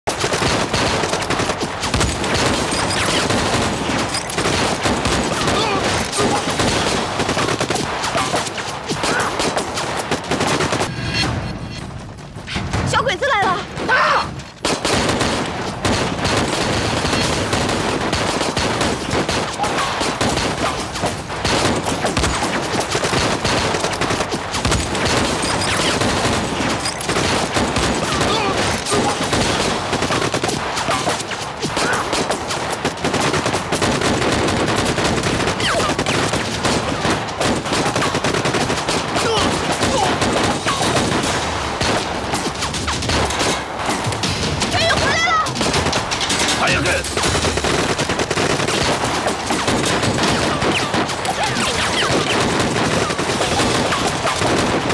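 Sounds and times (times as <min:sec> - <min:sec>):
rifles and machine guns firing: 0:00.0 - 0:54.9.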